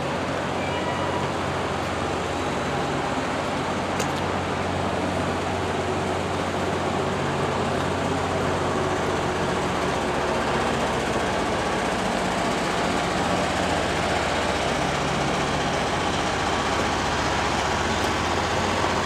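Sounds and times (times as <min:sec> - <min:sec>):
low engine drone: 0:00.0 - 0:19.0
traffic hum: 0:00.0 - 0:19.0.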